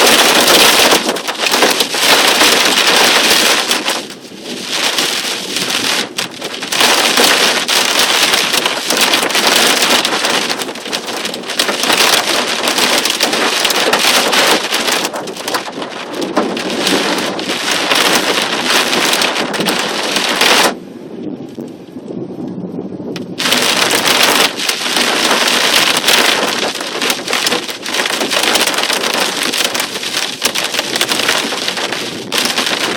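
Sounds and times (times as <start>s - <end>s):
torrential rain pouring: 0.0s - 20.9s, 23.4s - 32.9s.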